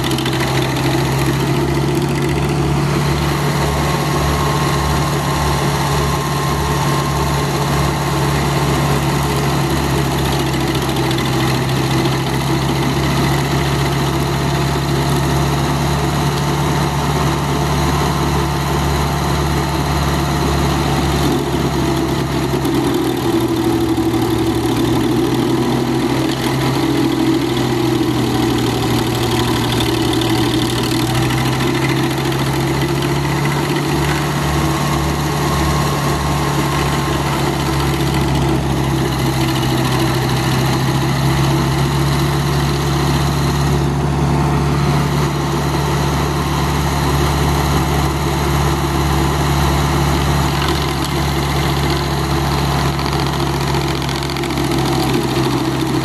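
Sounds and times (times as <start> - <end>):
stump grinder engine running: 0.0 - 56.0.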